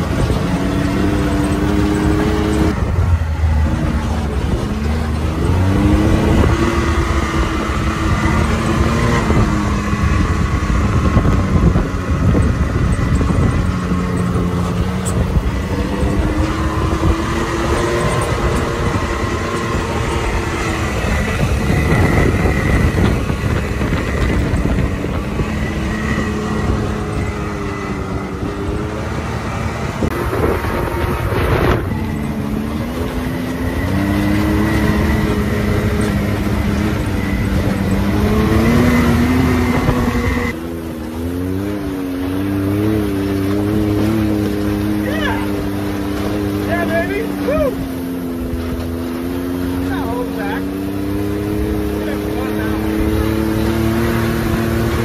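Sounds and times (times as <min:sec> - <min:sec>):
tyres rumbling on rocky trail: 0:00.0 - 0:55.0
vehicle engine revving: 0:00.0 - 0:55.0.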